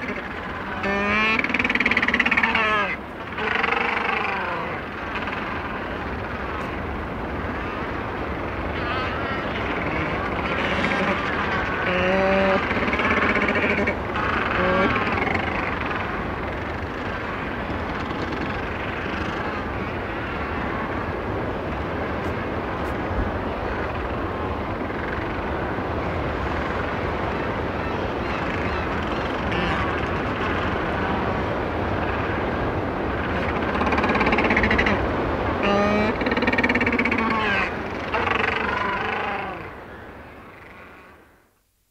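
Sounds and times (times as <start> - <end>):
close penguin call: 0.0 - 6.9, 8.6 - 20.6, 23.5 - 41.2
penguin colony calling: 0.0 - 21.0, 23.4 - 41.2
distant sea wash: 0.0 - 41.6.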